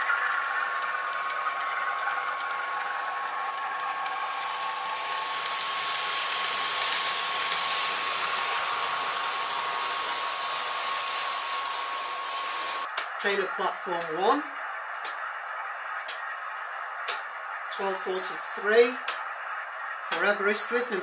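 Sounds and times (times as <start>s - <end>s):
model train whirring: 0.0s - 21.0s.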